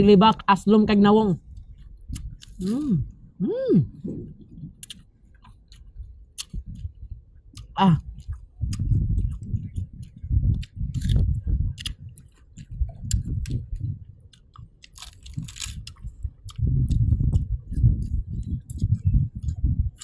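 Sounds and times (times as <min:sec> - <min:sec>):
crunching and chewing mango: 0:01.3 - 0:20.0.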